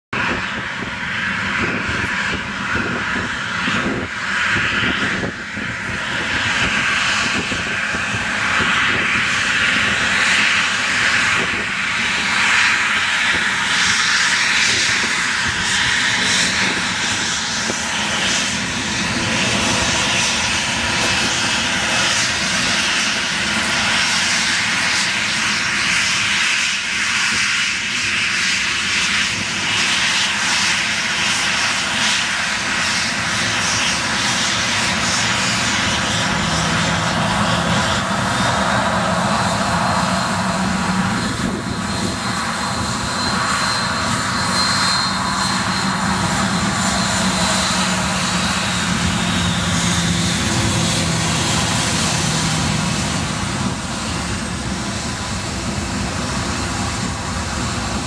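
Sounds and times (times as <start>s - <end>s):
jet engines at high thrust: 0.0s - 58.0s
faint engine whine: 0.2s - 58.0s.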